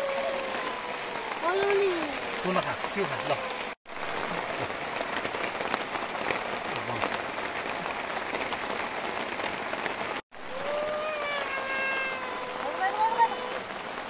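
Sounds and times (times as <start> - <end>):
rain pattering on plastic tarp: 0.0 - 14.0.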